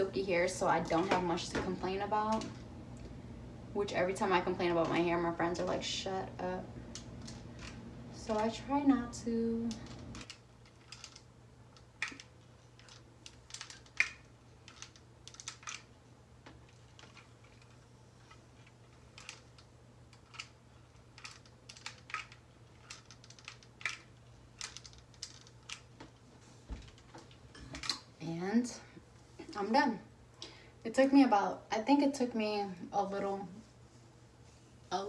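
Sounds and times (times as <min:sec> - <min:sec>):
faint steady low hum: 0:00.0 - 0:35.0.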